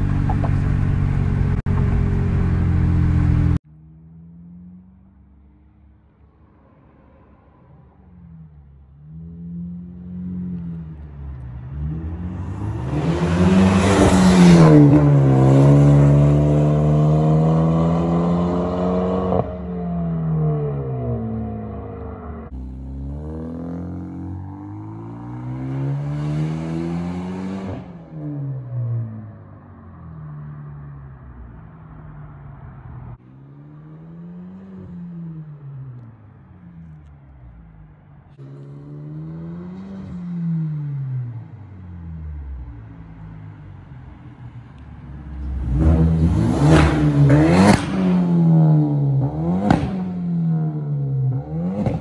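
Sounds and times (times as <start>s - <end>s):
car engine passing by: 6.2s - 52.0s.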